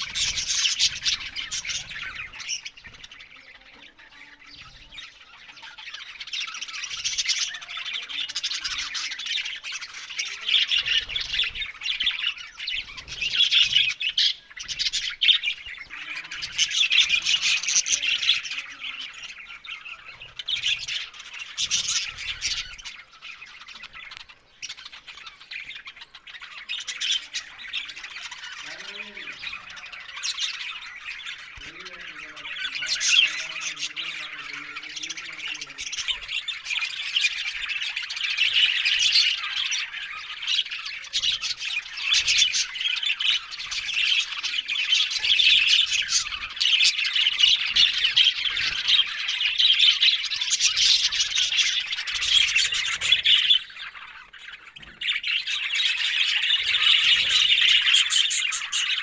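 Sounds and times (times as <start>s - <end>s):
budgies chattering and squawking: 0.0s - 59.0s.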